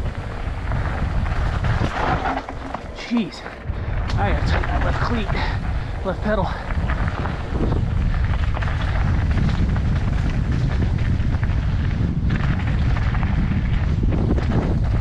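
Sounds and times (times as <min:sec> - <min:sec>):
bike rattling over stones: 0:00.0 - 0:15.0
tyres crunching over gravel: 0:00.0 - 0:15.0
wind buffeting microphone: 0:00.0 - 0:15.0.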